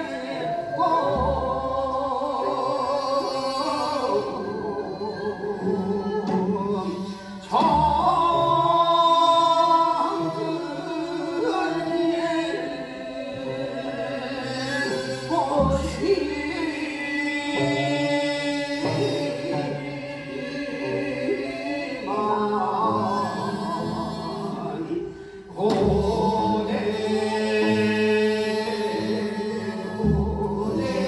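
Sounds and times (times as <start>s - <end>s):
woman and man singing folk song: 0.0s - 31.0s.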